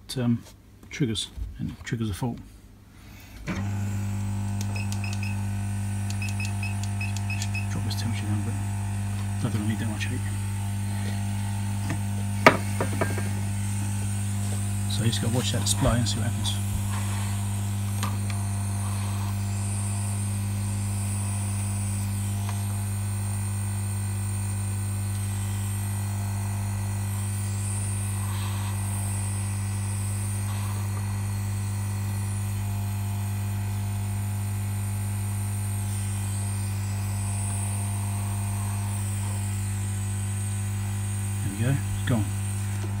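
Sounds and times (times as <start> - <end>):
low electrical hum: 0.0 - 43.0
hot air gun blowing: 3.4 - 43.0.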